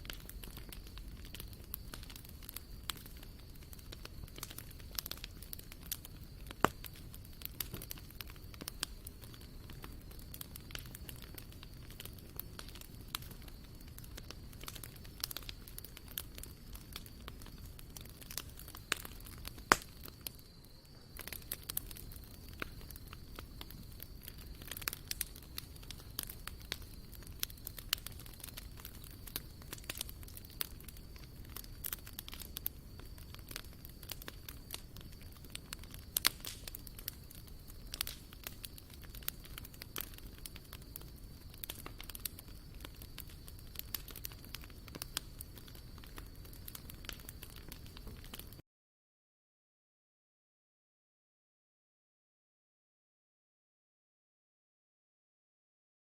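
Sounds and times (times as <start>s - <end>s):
campfire crackling: 0.0s - 48.6s.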